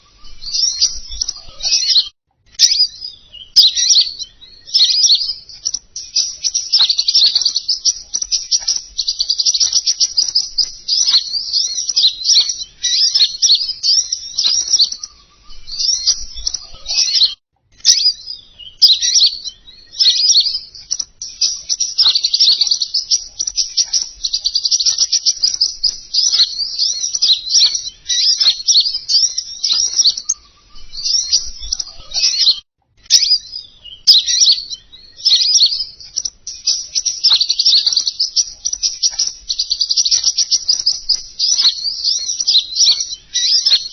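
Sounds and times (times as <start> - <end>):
songbird twittering chirps: 0.0 - 43.9.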